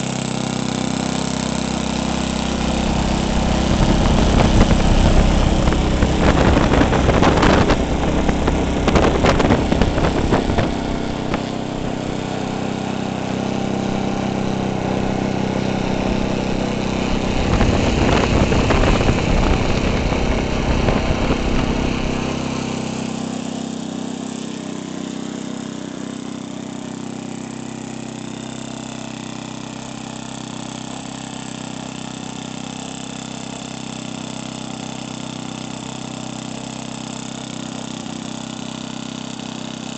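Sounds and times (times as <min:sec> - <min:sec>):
model airplane engine revving: 0:00.0 - 0:39.9.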